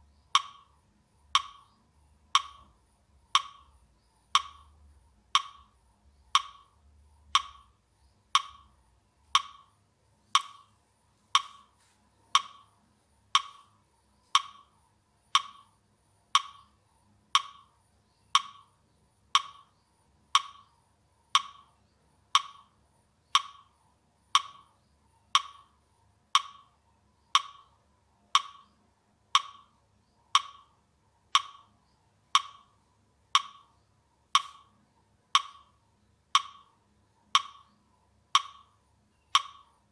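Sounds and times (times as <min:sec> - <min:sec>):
metronome wood-block ticking: 0:00.0 - 0:39.9.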